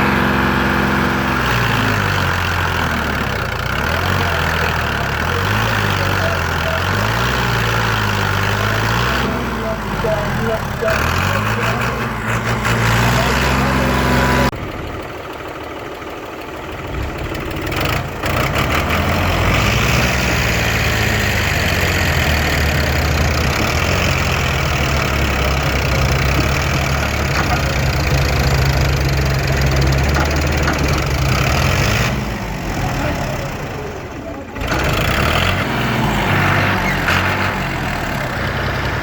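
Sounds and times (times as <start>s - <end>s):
tractor diesel engine revving: 0.0s - 39.0s.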